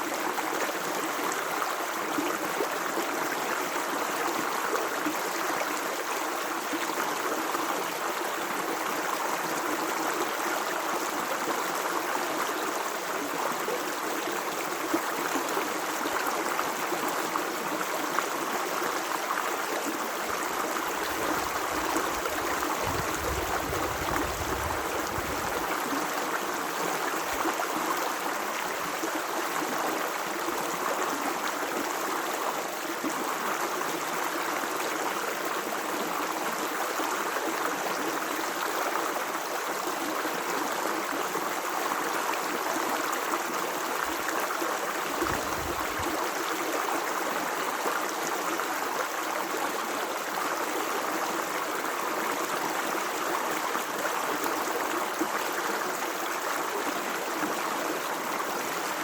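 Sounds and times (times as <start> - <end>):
stream water rushing: 0.2 - 37.3, 37.9 - 59.0.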